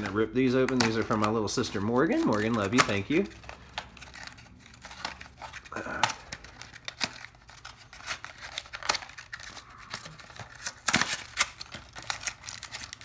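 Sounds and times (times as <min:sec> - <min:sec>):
light paper tearing: 0:00.0 - 0:13.0
packaging rustling and crinkling: 0:00.0 - 0:13.0.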